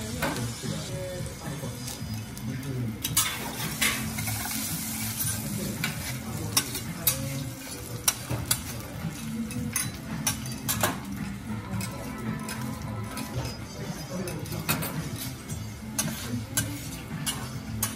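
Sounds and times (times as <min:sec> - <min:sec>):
food sizzling on a griddle: 0:00.0 - 0:17.9.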